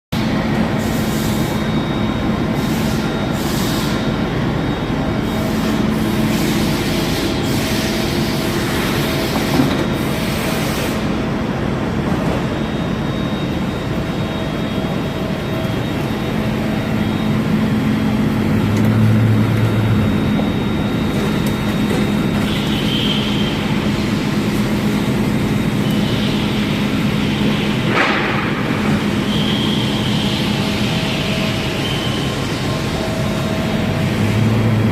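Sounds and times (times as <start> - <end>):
lathe humming and whining: 0.2 - 34.9.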